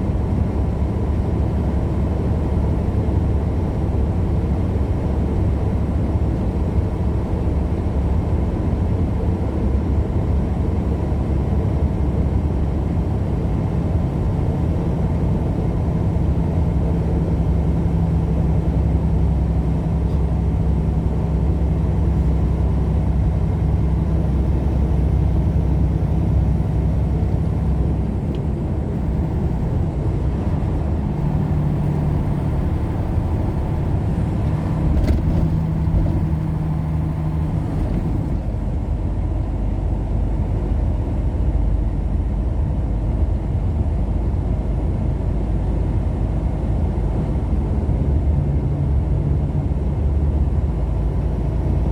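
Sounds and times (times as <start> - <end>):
road rumble: 0.0 - 51.9
vehicle engine hum: 0.0 - 51.9.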